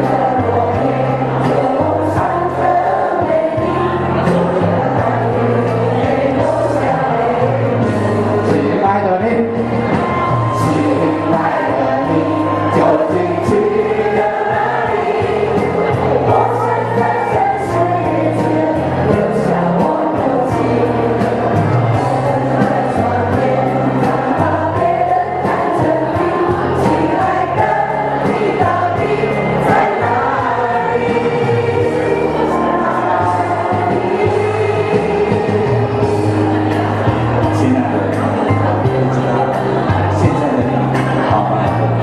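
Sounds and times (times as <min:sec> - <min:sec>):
choir singing: 0:00.0 - 0:42.0
instrumental accompaniment with beat: 0:00.0 - 0:42.0.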